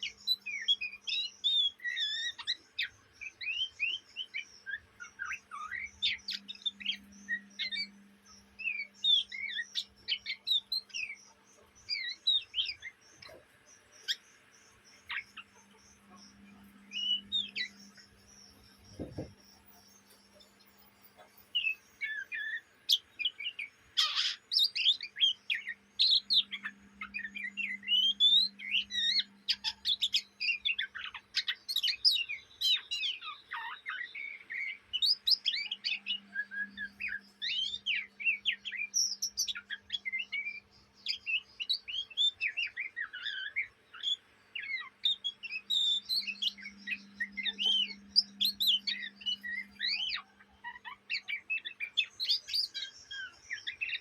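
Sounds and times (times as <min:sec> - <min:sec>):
magpie-robin twittering: 0:00.0 - 0:54.0.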